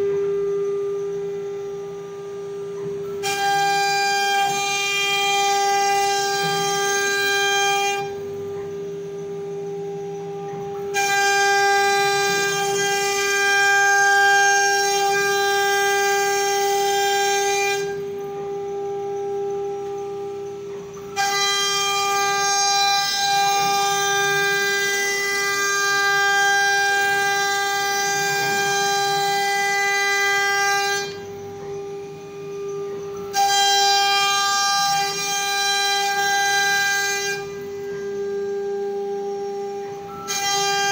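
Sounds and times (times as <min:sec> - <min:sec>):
wood router whining: 0:00.0 - 0:40.9.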